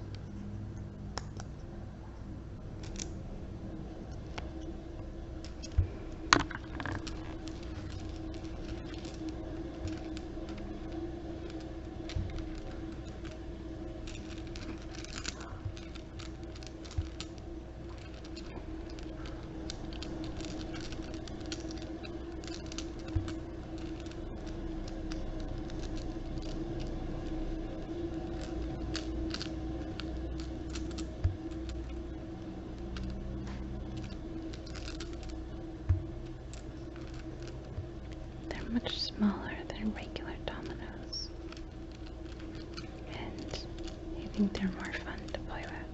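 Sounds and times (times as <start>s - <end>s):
steady low hum: 0.0s - 45.9s
dominoes clicking: 5.4s - 45.9s.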